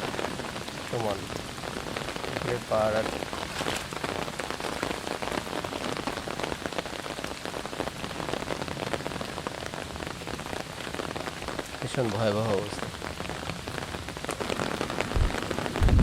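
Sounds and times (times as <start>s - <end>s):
steady rain patter: 0.0s - 16.0s.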